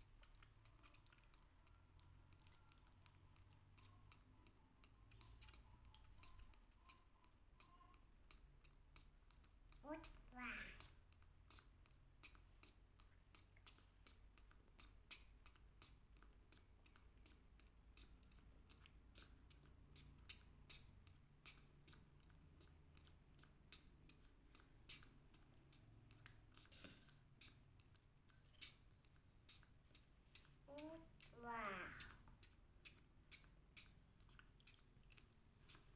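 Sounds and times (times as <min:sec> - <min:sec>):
straw sipping clicks: 0:00.0 - 0:35.9.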